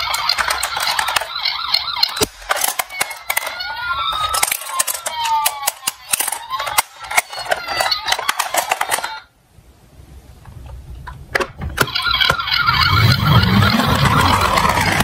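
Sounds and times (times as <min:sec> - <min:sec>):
toy cars clattering together: 0:00.0 - 0:09.3, 0:10.7 - 0:15.0
toy siren wails: 0:00.0 - 0:09.3, 0:11.8 - 0:15.0.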